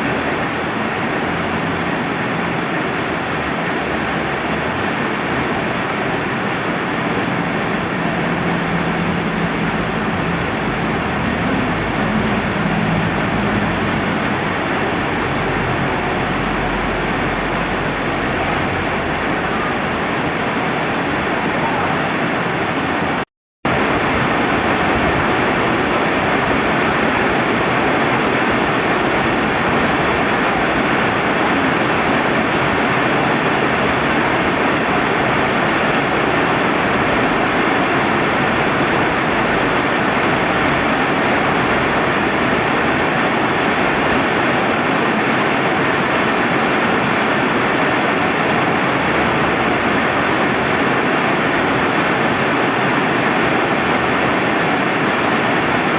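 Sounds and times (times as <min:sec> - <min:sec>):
river water running: 0:00.0 - 0:55.9
steady rain: 0:00.0 - 0:55.9.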